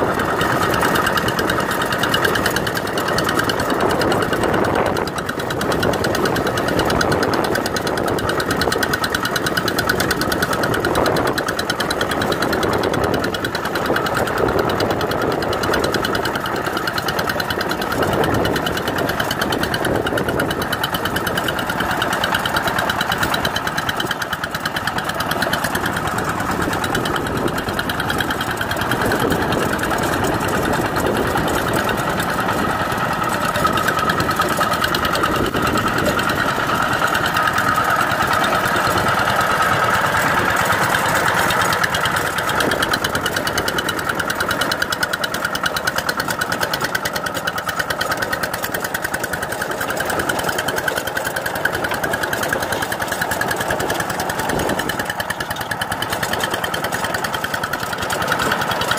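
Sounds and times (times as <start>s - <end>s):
diesel engine knocking: 0.0s - 58.9s
rotary tiller in mud: 0.0s - 58.9s.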